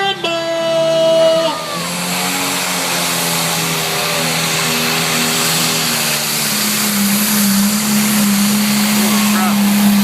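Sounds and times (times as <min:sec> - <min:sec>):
tractor engine under full load: 0:00.0 - 0:10.0.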